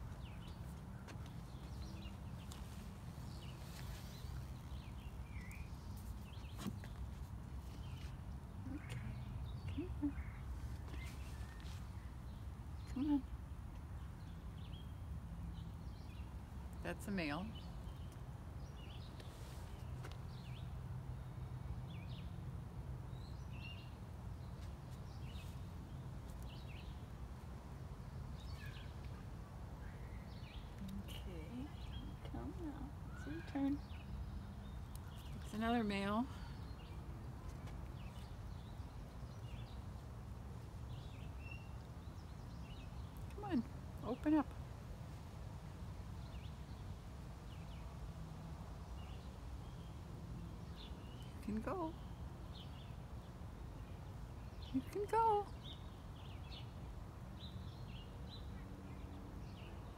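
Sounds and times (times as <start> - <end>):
small birds chirping: 0.0 - 22.4, 23.0 - 59.9.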